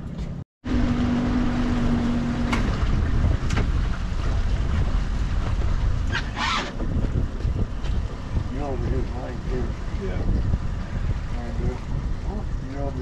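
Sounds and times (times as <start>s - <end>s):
boat motor running: 0.0s - 13.0s
wind noise on microphone: 0.0s - 13.0s.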